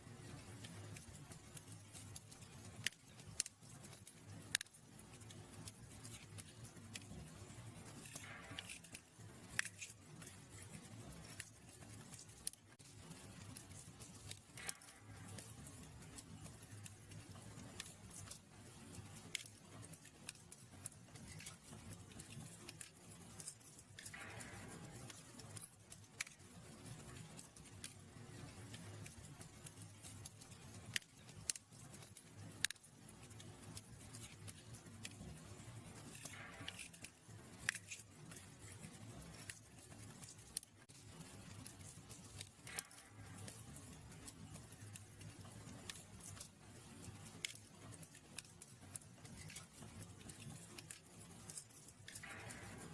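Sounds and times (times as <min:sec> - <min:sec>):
fire crackling in a fireplace: 0:00.0 - 0:52.9.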